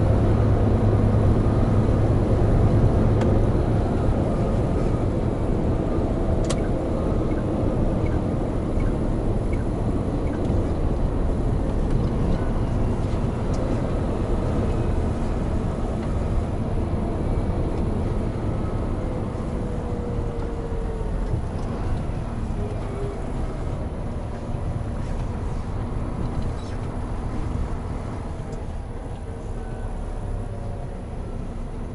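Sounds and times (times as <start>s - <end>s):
road noise: 0.0s - 31.9s
truck diesel engine rumble: 0.0s - 31.9s.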